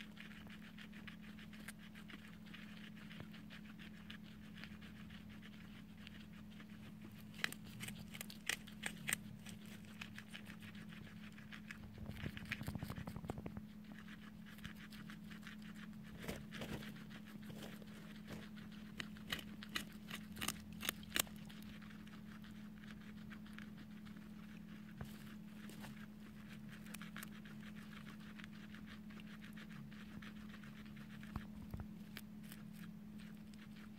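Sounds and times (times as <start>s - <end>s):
faint steady hum: 0.0s - 33.9s
guinea pigs crunching vegetables: 0.0s - 33.9s.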